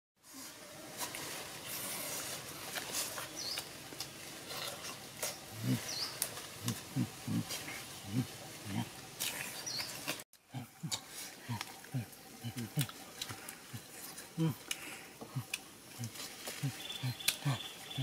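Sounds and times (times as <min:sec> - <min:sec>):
wet chewing sounds: 0:01.0 - 0:17.7.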